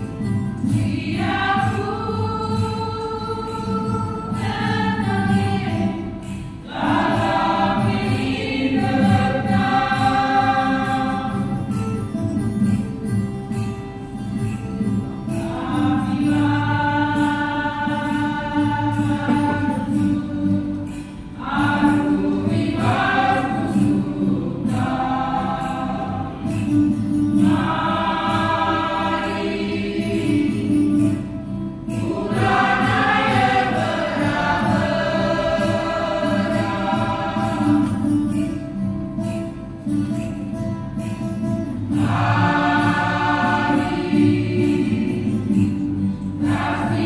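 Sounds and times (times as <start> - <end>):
church choir singing: 0.0 - 12.0, 15.4 - 38.6, 41.8 - 47.0.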